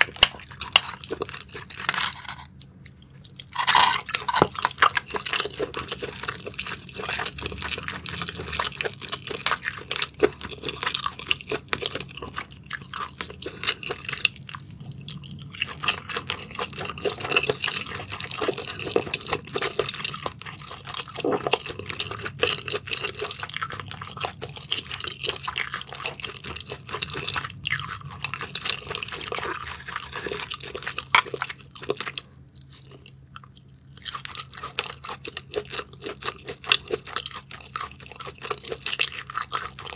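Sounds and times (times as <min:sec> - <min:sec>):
close chewing with mouth clicks: 0:00.0 - 0:39.9.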